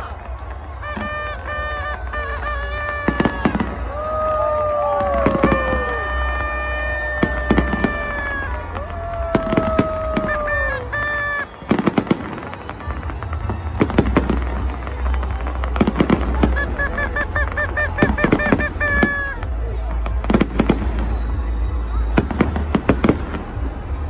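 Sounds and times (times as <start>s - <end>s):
horns honking: 0.0s - 4.1s, 5.1s - 24.0s
fireworks bangs and crackling: 0.0s - 24.0s.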